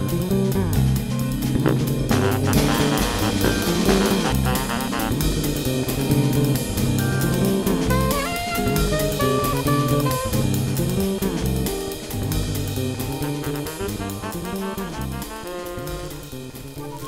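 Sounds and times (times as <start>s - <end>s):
instrumental music with drum beat: 0.0s - 17.0s.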